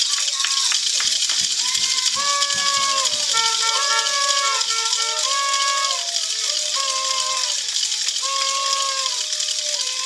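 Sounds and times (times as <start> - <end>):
rattle shaking: 0.0 - 10.0
tune of long held notes: 1.3 - 10.0.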